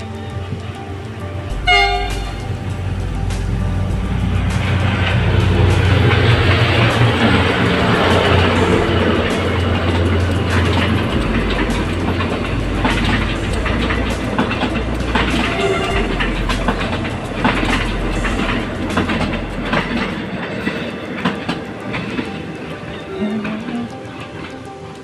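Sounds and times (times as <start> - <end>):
train rumble: 0.0 - 25.0
train wheels clacking on rails: 0.0 - 25.0.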